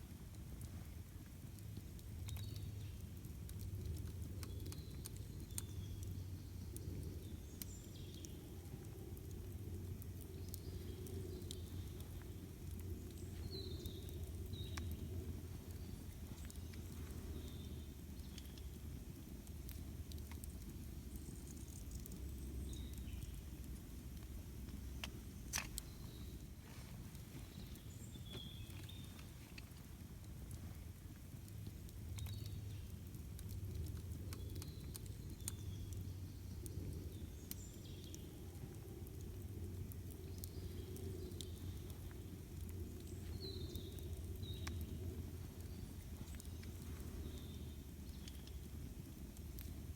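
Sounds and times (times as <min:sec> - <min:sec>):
campfire crackling and popping: 0:00.0 - 0:49.9
steady low rumble: 0:00.1 - 0:49.9.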